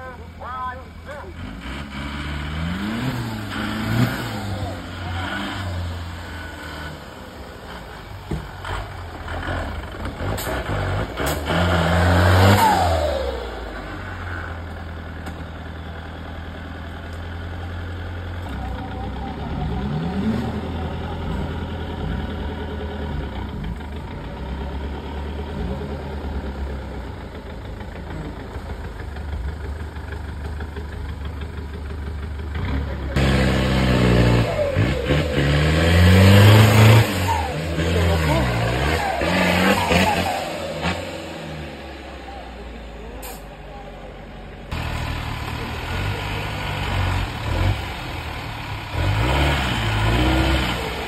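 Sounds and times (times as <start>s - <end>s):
off-road engine revving: 0.0s - 51.0s.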